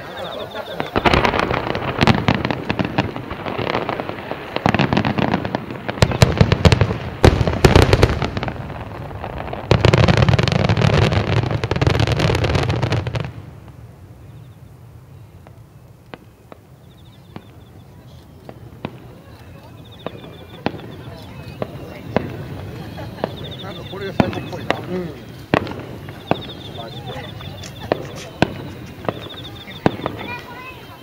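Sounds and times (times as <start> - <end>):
fireworks bursting: 0.0 - 31.0
single firework bangs: 0.2 - 13.4, 18.5 - 31.0.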